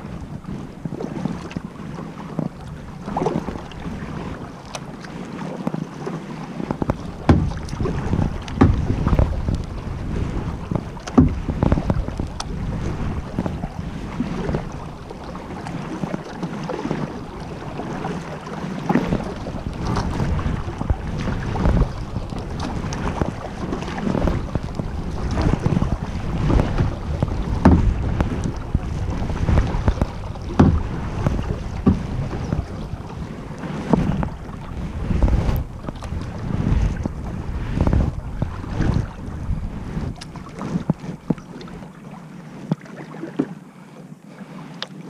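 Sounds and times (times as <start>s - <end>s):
wind on microphone: 0.0s - 42.9s
paddle splashing into water: 0.0s - 43.6s.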